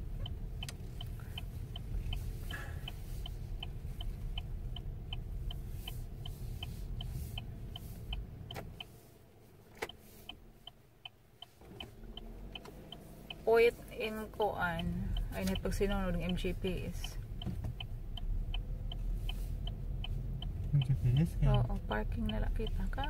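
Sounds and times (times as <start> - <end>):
car turn signal ticking: 0.0 - 23.0
engine and road rumble: 0.0 - 23.0.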